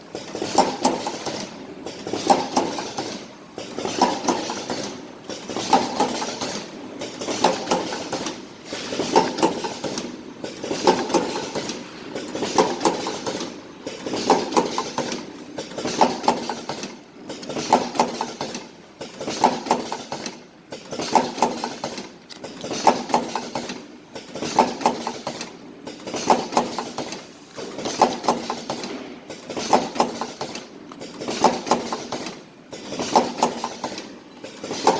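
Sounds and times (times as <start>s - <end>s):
cartoning machine clattering: 0.0s - 34.9s.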